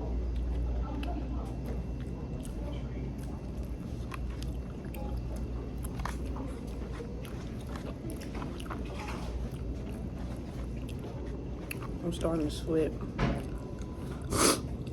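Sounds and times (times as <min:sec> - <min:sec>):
steady low hum: 0:00.0 - 0:14.9
chewing crunchy fried fish: 0:00.1 - 0:14.9.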